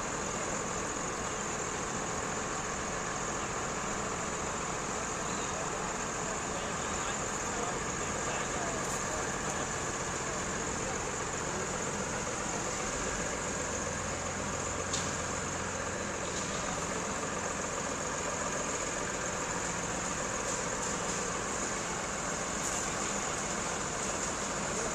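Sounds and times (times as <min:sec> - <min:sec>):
heavy vehicle engine running: 0:00.0 - 0:24.9.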